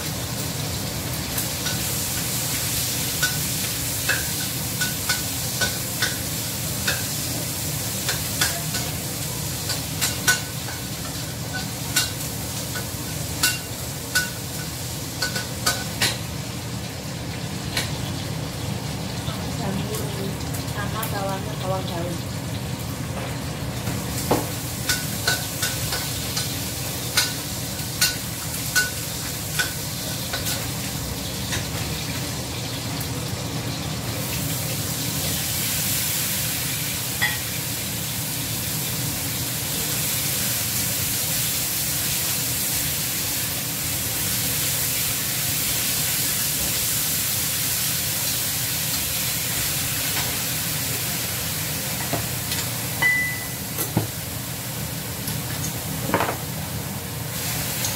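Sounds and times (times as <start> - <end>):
vegetables sizzling in wok: 0.0 - 57.9.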